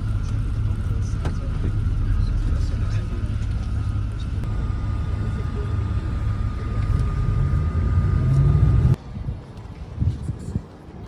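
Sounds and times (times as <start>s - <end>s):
faint high whine: 0.0s - 9.0s
motor vehicle rumble: 0.0s - 10.3s.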